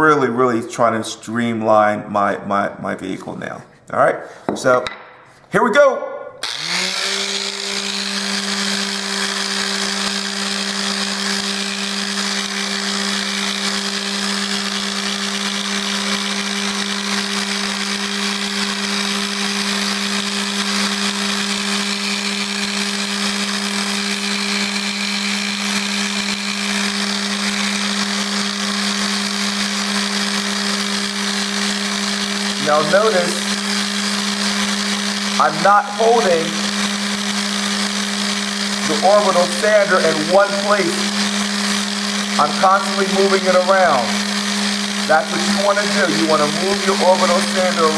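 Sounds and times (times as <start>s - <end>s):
electric sander running: 6.4s - 47.9s.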